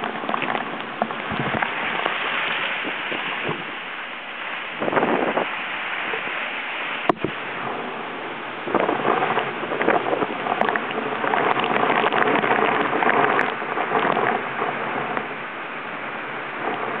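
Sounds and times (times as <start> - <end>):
hurricane wind: 0.0 - 17.0
rain spattering on camera: 0.0 - 17.0.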